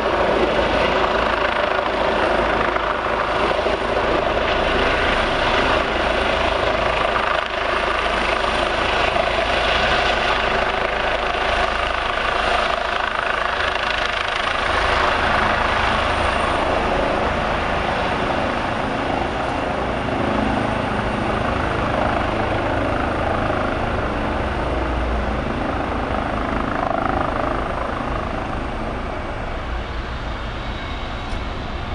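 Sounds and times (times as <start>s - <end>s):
helicopter rotor and turbine: 0.0s - 31.9s.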